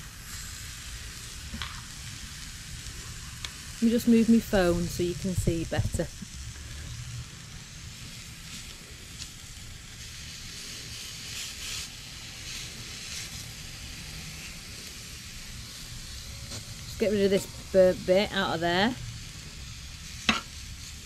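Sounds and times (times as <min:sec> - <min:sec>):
omelette sizzling in a pan: 0:00.0 - 0:21.0.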